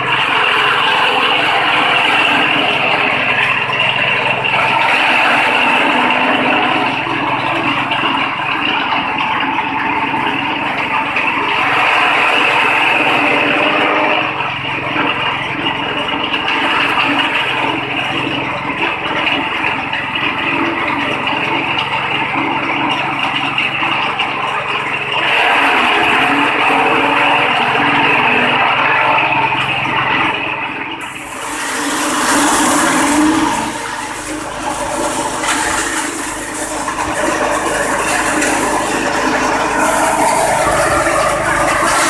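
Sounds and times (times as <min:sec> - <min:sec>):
petrol engine running: 0:00.0 - 0:42.0.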